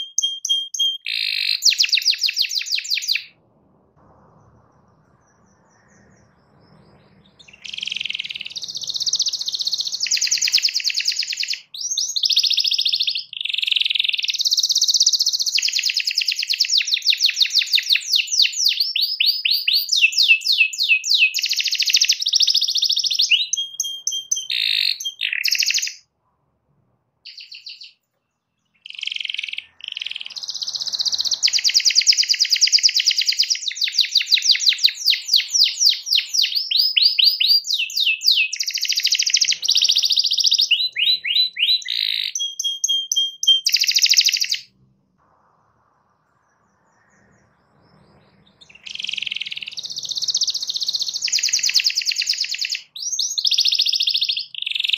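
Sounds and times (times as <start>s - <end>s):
canary singing trills: 0.0s - 26.2s, 27.2s - 44.8s, 45.4s - 54.9s.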